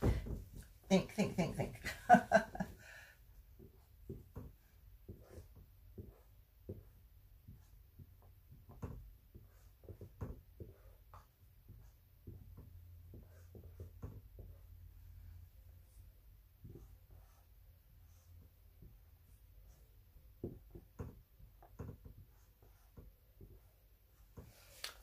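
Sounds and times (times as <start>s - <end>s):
marker writing on whiteboard: 3.3s - 24.8s.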